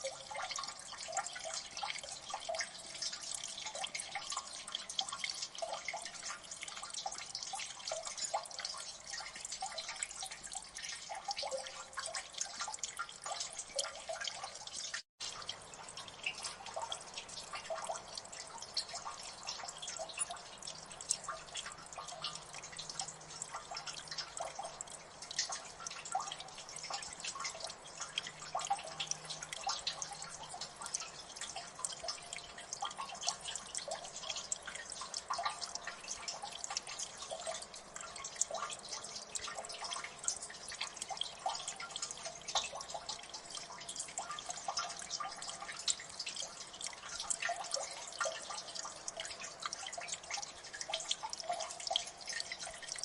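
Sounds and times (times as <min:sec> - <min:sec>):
water dripping: 0:00.0 - 0:53.0.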